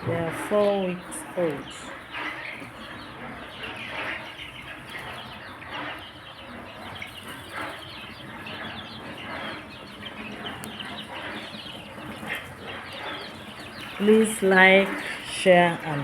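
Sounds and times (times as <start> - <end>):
chicks peeping and cheeping: 0.0 - 16.0.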